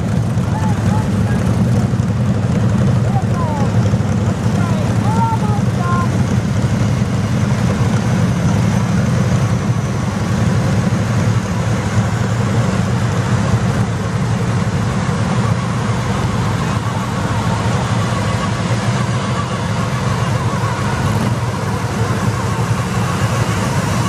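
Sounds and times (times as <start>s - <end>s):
garden tractor engine running: 0.0s - 24.0s.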